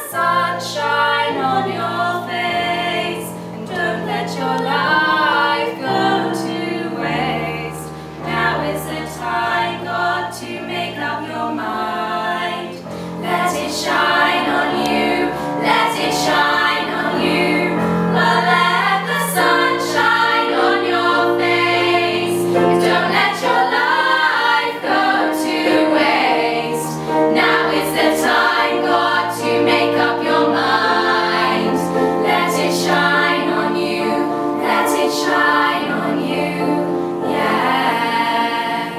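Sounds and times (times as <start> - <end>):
choir-like singing: 0.0 - 38.9.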